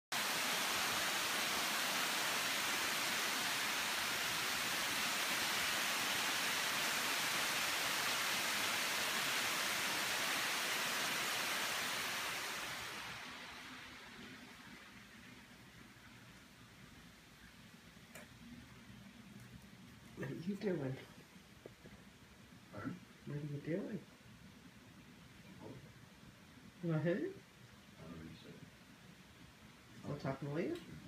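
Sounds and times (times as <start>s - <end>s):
heavy rain hiss: 0.1s - 19.2s, 20.0s - 31.0s.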